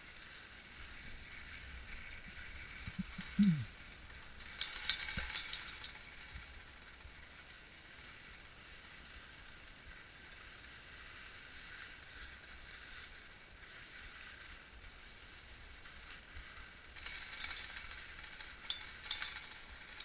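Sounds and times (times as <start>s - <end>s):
skis scraping over packed snow: 0.0s - 20.0s.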